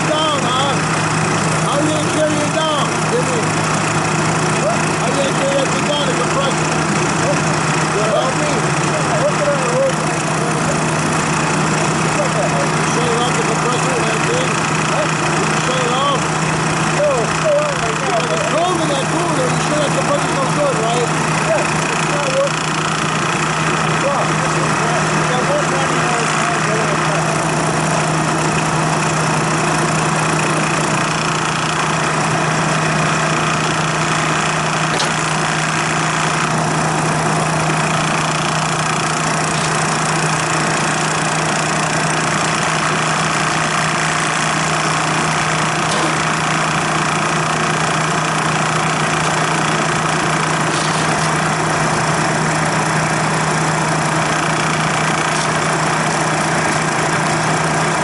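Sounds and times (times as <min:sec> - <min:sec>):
compressor machine humming: 0:00.0 - 0:58.0.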